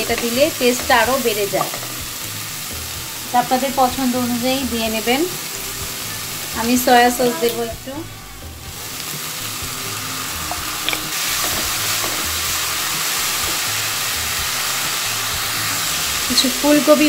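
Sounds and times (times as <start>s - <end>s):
food sizzling in a hot pan: 0.0s - 17.0s.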